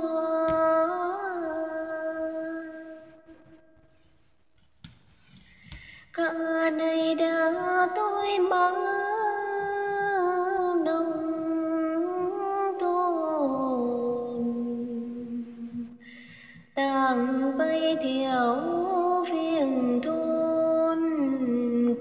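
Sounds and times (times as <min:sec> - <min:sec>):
woman singing unaccompanied: 0:00.0 - 0:03.3, 0:06.1 - 0:16.0, 0:16.8 - 0:22.0.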